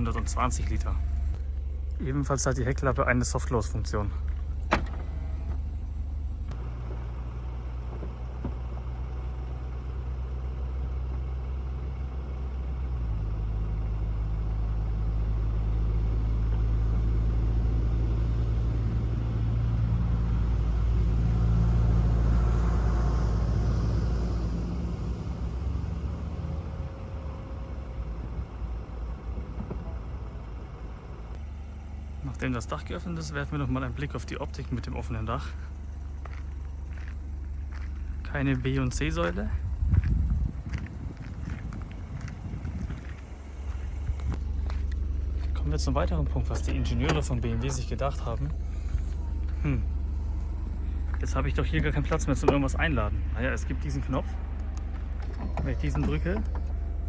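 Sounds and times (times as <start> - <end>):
hydraulic pump humming: 0.0 - 57.0.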